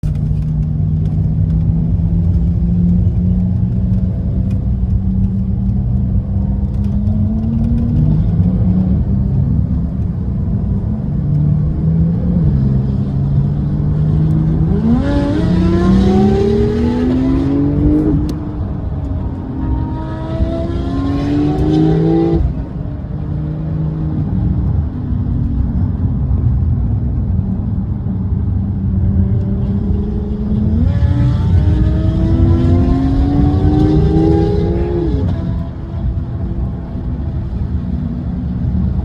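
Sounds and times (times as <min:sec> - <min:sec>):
car engine running and revving: 0:00.0 - 0:39.0.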